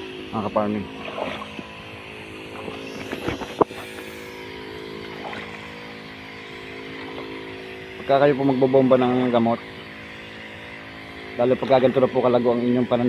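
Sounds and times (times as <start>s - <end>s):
sprayer engine running: 0.0s - 13.0s.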